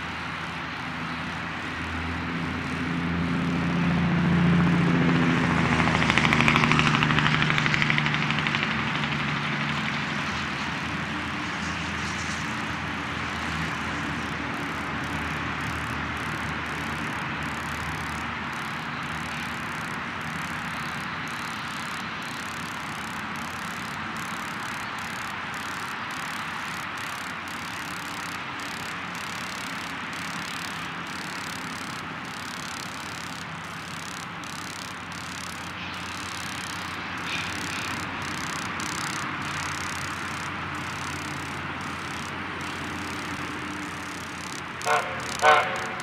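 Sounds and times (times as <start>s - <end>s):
distant train rumble: 2.6s - 46.0s.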